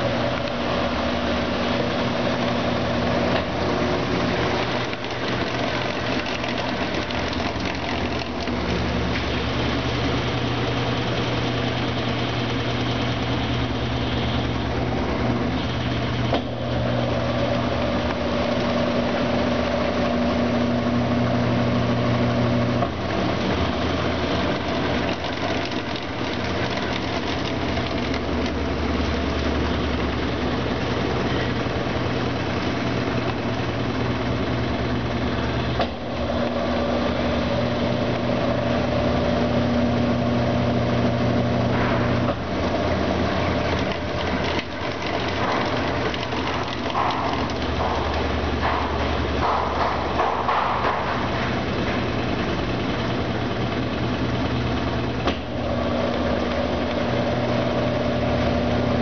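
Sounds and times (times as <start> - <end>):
washing machine churning: 0.0 - 59.0
washing machine motor hum: 0.0 - 59.0.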